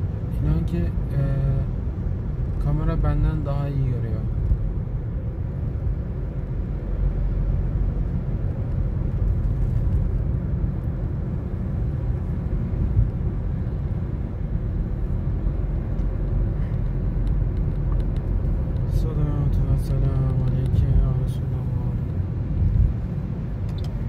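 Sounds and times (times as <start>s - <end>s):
car cabin road and engine noise: 0.0s - 24.0s.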